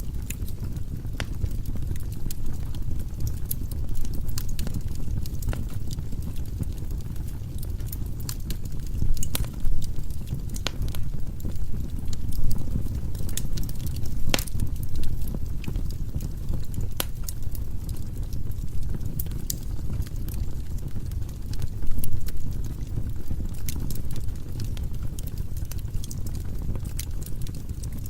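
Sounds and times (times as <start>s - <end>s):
firewood burning in fireplace: 0.0s - 28.0s.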